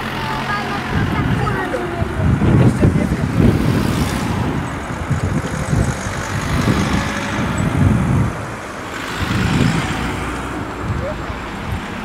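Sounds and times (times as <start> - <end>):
low buffeting rumbles: 0.0 - 12.0.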